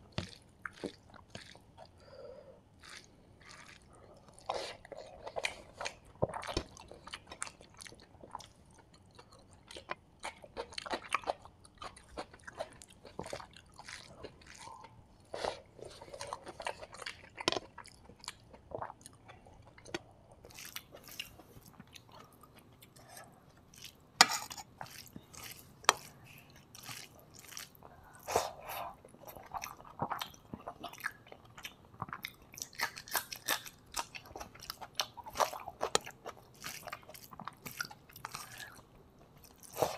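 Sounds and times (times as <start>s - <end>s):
chewing and wet mouth sounds: 0.1s - 39.9s.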